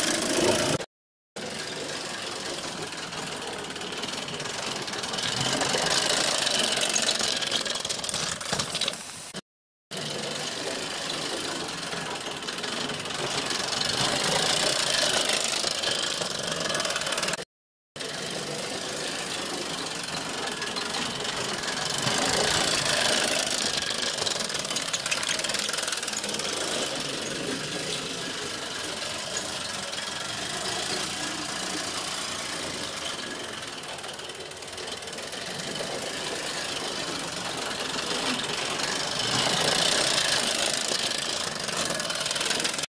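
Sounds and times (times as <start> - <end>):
model steam locomotive chuffing: 0.0 - 17.4, 18.0 - 42.9.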